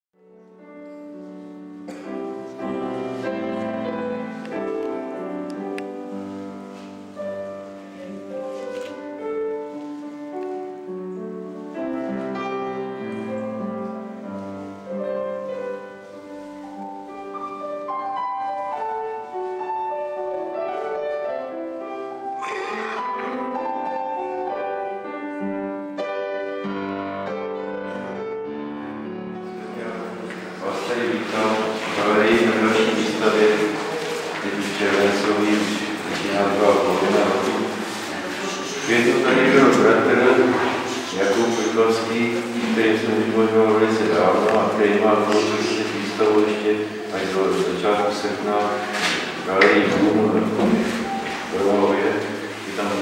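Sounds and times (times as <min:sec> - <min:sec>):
piano music: 0:00.2 - 0:53.0.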